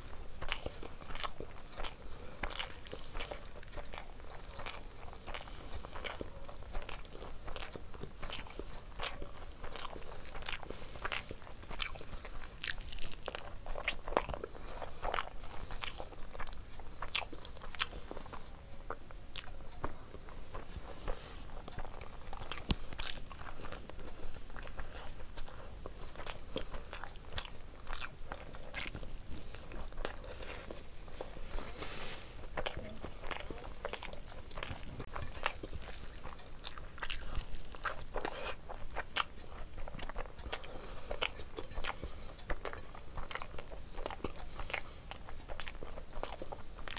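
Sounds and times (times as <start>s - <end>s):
person chewing with wet smacking: 0.0s - 46.9s.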